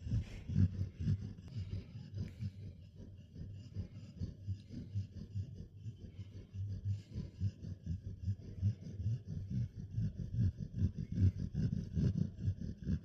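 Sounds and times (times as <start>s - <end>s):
dog snoring: 0.0s - 13.0s.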